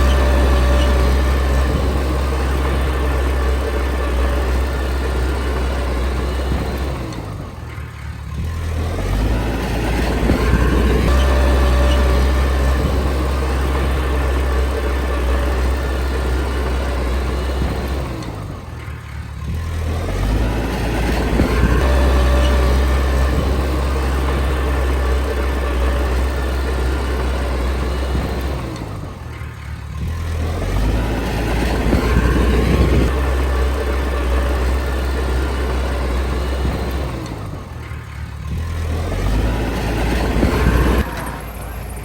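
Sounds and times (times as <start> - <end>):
bulldozer diesel engine: 0.0 - 42.0.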